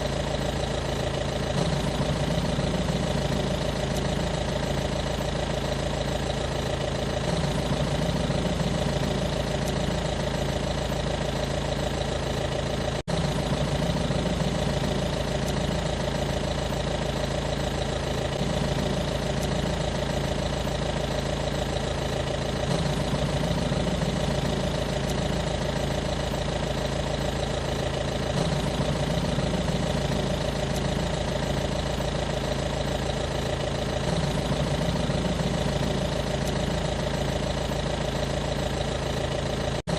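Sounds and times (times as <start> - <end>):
motor running steadily: 0.0 - 39.9.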